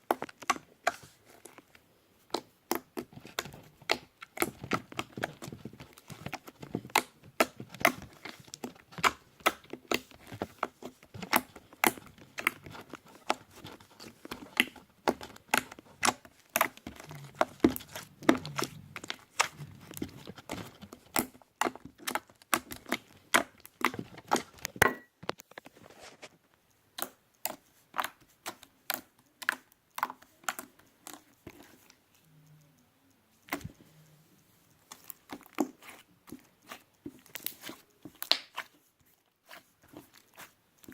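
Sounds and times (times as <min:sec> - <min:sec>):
slime squished with wet pops: 0:00.0 - 0:24.8, 0:26.9 - 0:32.3, 0:34.7 - 0:38.8.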